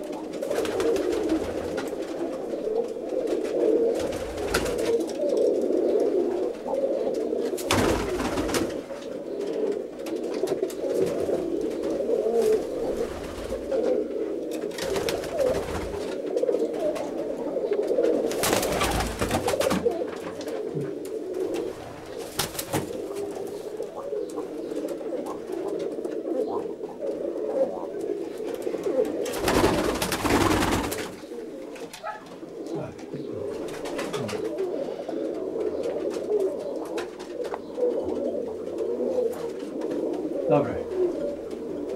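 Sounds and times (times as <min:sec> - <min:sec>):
pigeons cooing: 0:00.0 - 0:41.9.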